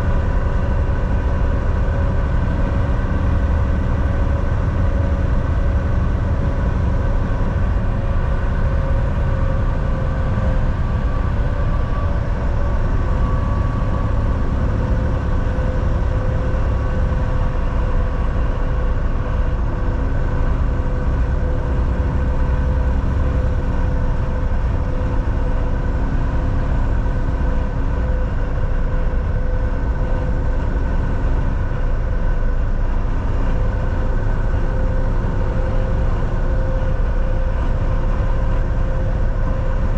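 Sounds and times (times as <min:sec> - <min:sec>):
steady whine: 0:00.0 - 0:39.9
truck engine and road rumble: 0:00.0 - 0:39.9.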